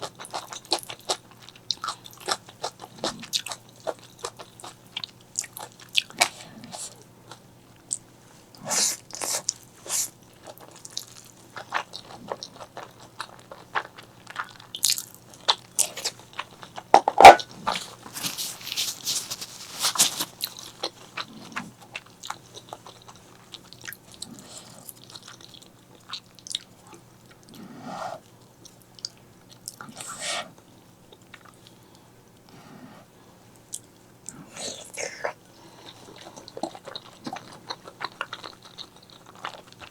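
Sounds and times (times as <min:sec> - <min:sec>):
chewing and mouth smacks: 0:00.0 - 0:32.6, 0:33.6 - 0:39.9.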